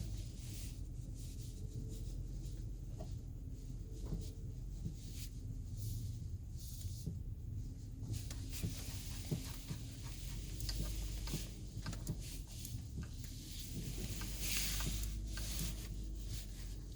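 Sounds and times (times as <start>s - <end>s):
engine knocks and clicks: 0.0s - 5.4s, 6.1s - 16.9s
low engine rumble: 0.0s - 16.9s.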